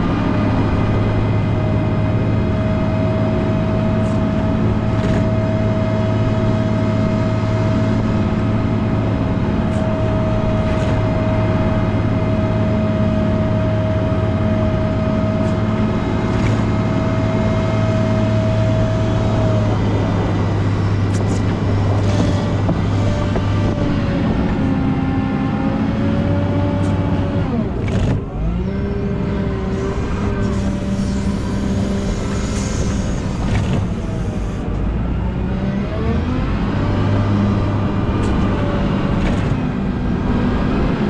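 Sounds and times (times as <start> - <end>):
steady whine: 0.0 - 35.4
wheel loader diesel engine: 0.0 - 41.0.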